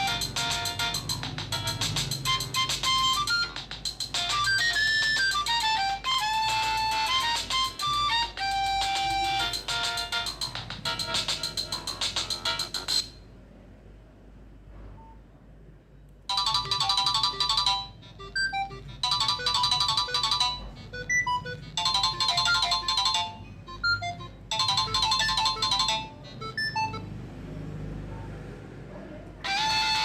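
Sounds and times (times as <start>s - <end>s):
polyphonic ringtone melody: 0.0s - 13.2s, 16.3s - 27.2s, 29.4s - 30.0s.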